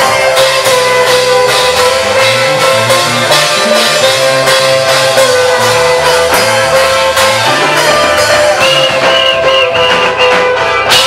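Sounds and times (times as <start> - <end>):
gospel band music: 0.0 - 11.0.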